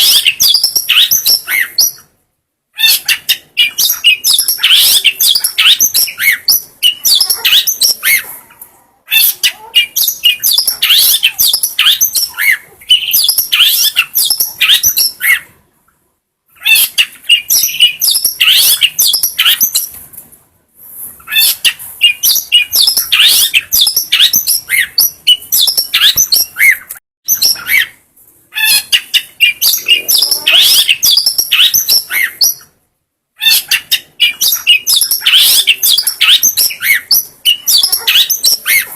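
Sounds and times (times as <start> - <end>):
bird singing fast chirps and trills: 0.0 - 2.1, 2.8 - 8.0, 9.2 - 15.4, 16.6 - 19.9, 21.4 - 27.9, 28.6 - 32.7, 33.4 - 38.9.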